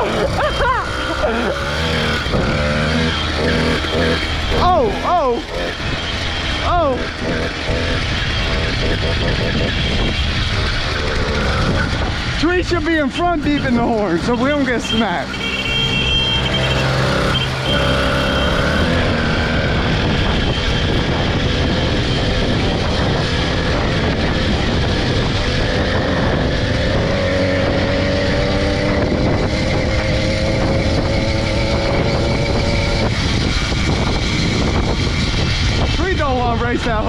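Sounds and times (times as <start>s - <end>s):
motorized bicycle engine buzzing: 0.0s - 35.9s.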